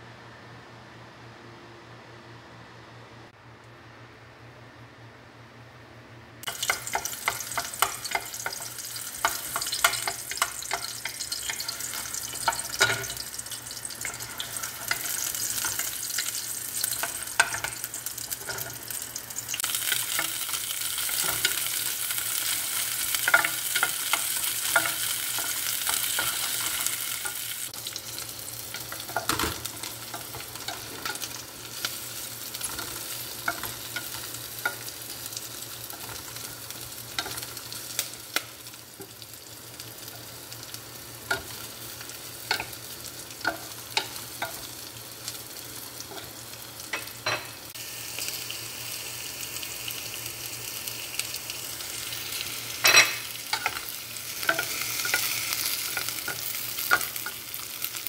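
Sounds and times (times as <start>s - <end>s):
onions frying in hot oil: 6.4s - 58.0s.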